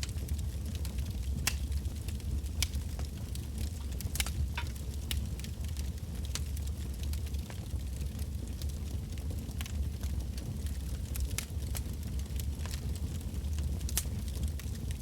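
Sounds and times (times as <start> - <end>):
burning logs crackling and popping: 0.0 - 15.0
campfire flames rumbling: 0.0 - 15.0.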